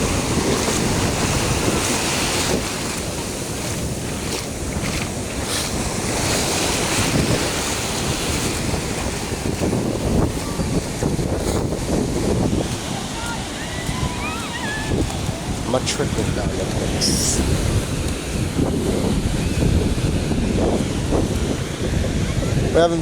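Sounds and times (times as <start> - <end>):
surf washing: 0.0 - 23.0
wind buffeting microphone: 0.0 - 23.0.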